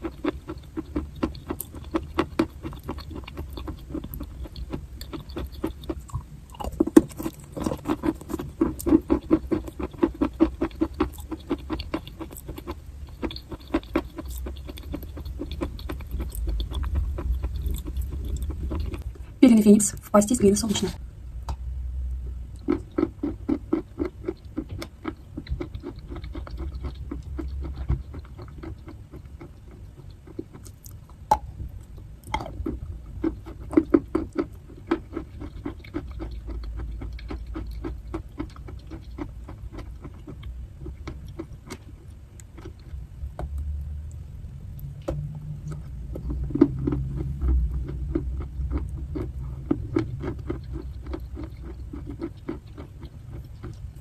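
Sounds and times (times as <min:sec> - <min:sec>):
crunchy chewing: 0:00.0 - 0:19.2, 0:22.6 - 0:43.0, 0:45.6 - 0:54.0.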